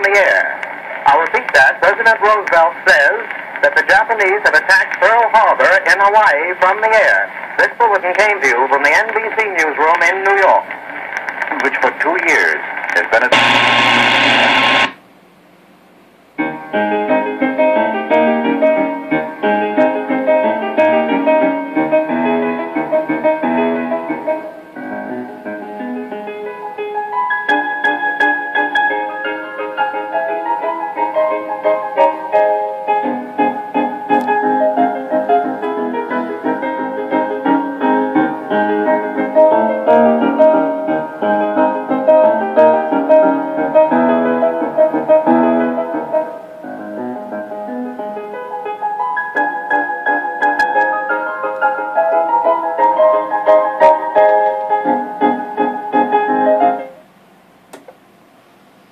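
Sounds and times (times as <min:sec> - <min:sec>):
piano music from radio speaker: 0:00.0 - 0:15.0, 0:16.3 - 0:57.1.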